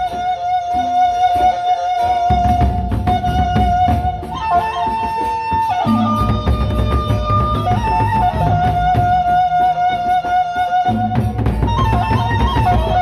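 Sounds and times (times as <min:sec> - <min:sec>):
barrel drums beaten: 0:00.0 - 0:13.0.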